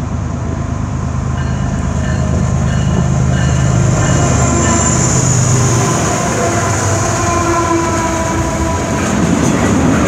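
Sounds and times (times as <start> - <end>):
diesel locomotives passing: 0.0 - 10.0.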